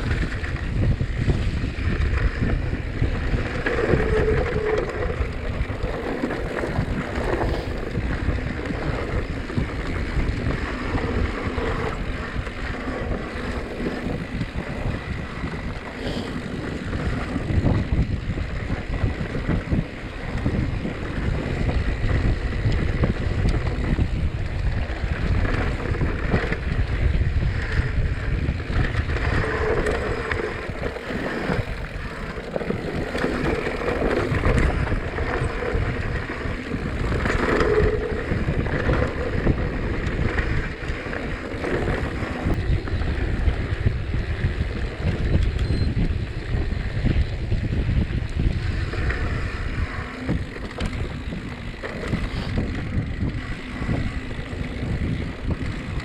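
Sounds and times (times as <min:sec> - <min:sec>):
bike rumbling on trail: 0:00.0 - 0:56.0
wind buffeting microphone: 0:00.0 - 0:56.0.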